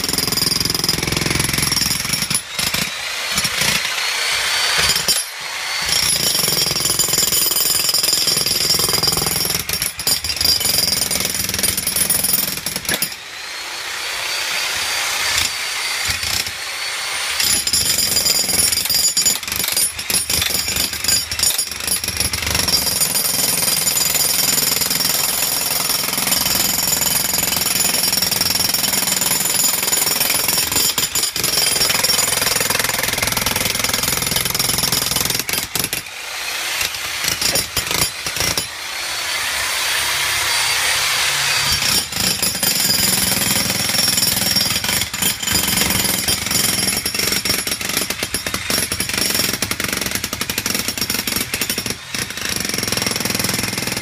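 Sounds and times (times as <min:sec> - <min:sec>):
jackhammer breaking concrete: 0:00.0 - 0:13.2, 0:15.1 - 0:16.7, 0:17.3 - 0:39.0, 0:40.4 - 0:54.0.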